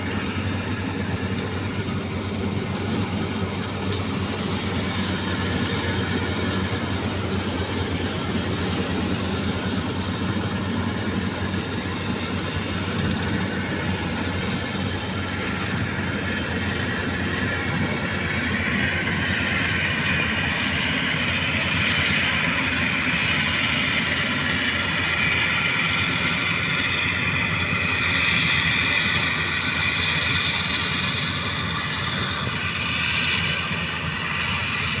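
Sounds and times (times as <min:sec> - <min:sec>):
combine harvester engine hum: 0:00.0 - 0:35.0.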